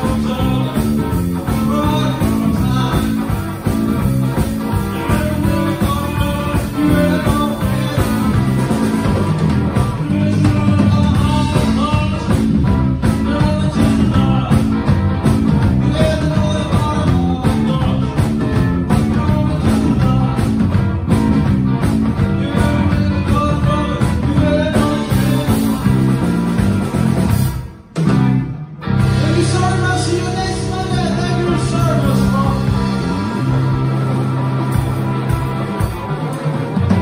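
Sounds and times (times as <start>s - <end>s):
drum kit beat: 0.0s - 37.0s
electric bass line: 0.0s - 37.0s
electric guitar: 0.0s - 37.0s.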